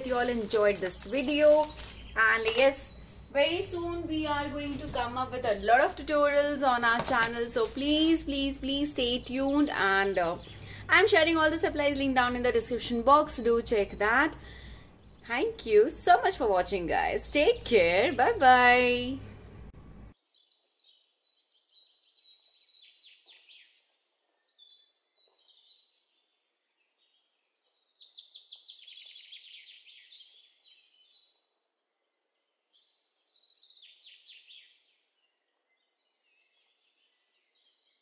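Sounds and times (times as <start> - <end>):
faint birdsong chirps and trills: 0.0 - 19.2, 20.1 - 38.0.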